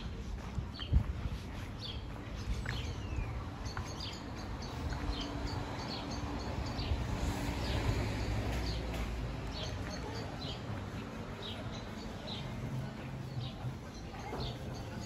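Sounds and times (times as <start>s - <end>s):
low street rumble: 0.0s - 15.0s
small birds chirping: 0.2s - 15.0s.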